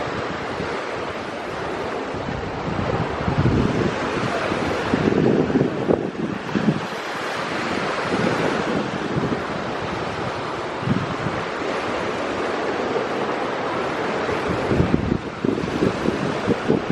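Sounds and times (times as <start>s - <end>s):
surf rushing: 0.0s - 16.9s
wind: 0.0s - 16.9s
wind buffeting microphone: 0.0s - 16.9s.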